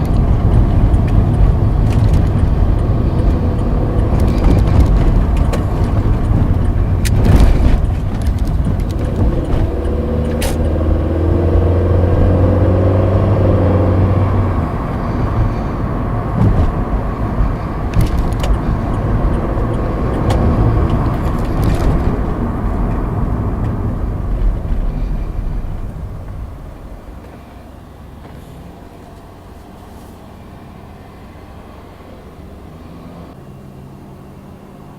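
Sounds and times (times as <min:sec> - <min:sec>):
suspension knocks over bumps: 0:00.0 - 0:29.1
car engine pulling: 0:00.0 - 0:34.9
road and tyre rumble: 0:00.0 - 0:34.9.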